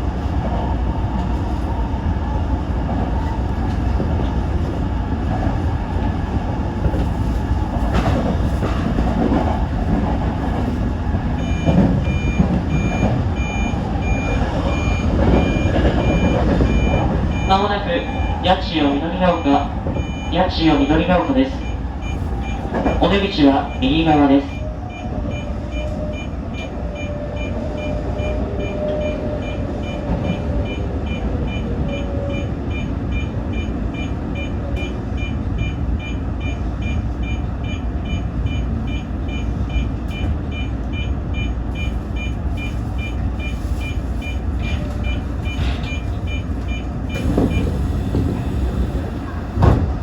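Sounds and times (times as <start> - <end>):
electric train rumbling: 0.0 - 50.0.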